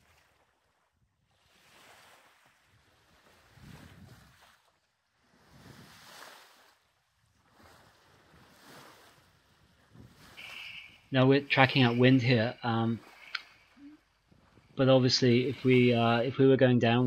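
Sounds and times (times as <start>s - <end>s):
water washing along hull: 0.0s - 17.0s.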